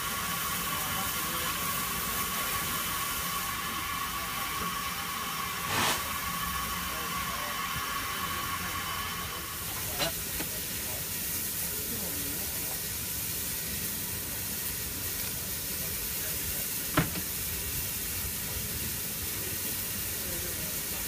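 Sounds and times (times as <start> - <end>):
steam locomotive hissing: 0.0 - 21.0.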